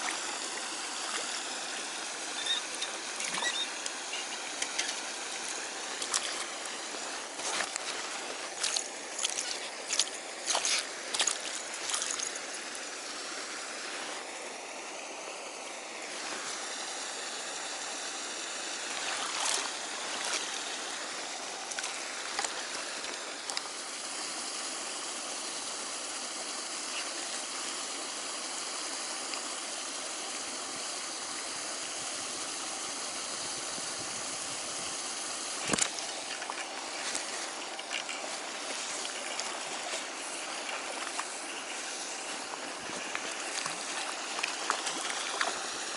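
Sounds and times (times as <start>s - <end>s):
flowing water rushing: 0.0s - 45.9s.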